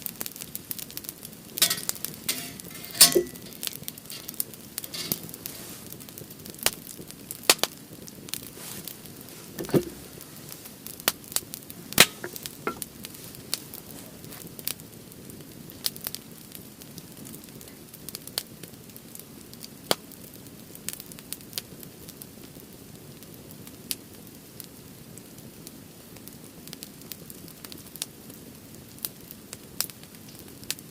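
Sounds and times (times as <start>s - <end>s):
firewood crackling and popping: 0.0s - 30.9s.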